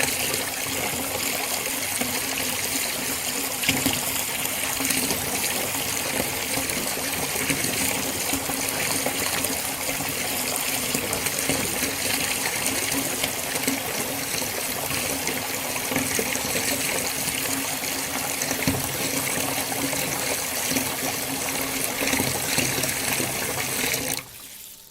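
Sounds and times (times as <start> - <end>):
water pouring: 0.0 - 24.9.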